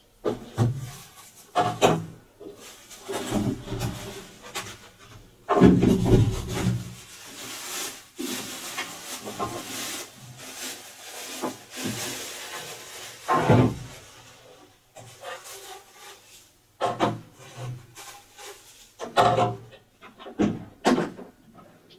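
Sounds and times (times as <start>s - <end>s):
cardboard and plastic rustling: 0.2s - 21.3s.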